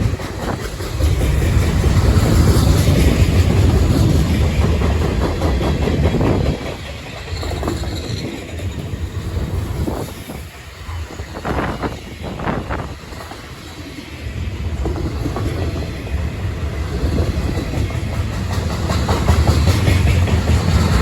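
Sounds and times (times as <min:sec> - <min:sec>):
freight train rumbling: 0:00.0 - 0:21.0
train wheels clacking on rails: 0:00.0 - 0:21.0.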